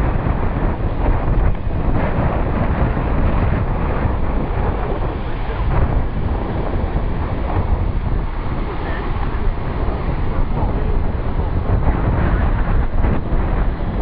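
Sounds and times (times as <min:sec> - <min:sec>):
moving vehicle rumble: 0:00.0 - 0:14.0
wind buffeting microphone: 0:00.0 - 0:14.0.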